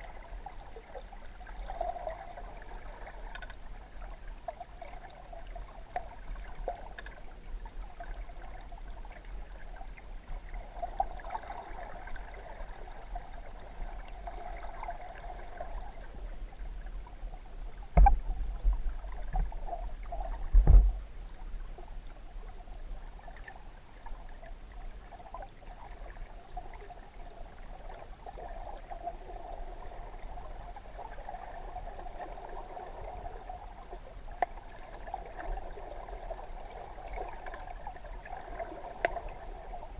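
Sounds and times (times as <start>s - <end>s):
muffled underwater wash: 0.0s - 39.9s.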